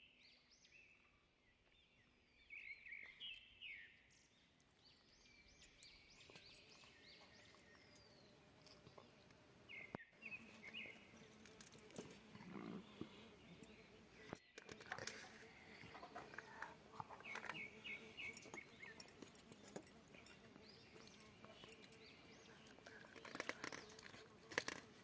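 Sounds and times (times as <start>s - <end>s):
faint bird chirping: 0.0s - 24.8s.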